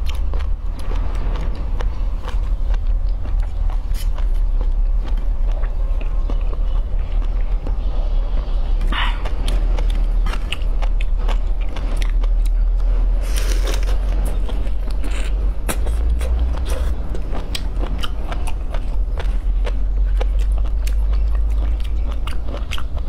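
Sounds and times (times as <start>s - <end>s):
chewing: 0.0s - 23.0s
low hum: 0.0s - 23.0s.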